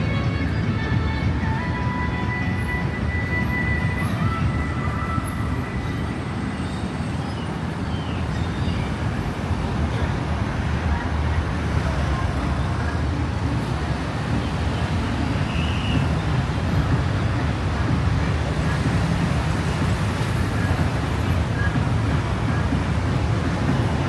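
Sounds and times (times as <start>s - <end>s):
city road traffic rumble: 0.0s - 24.0s.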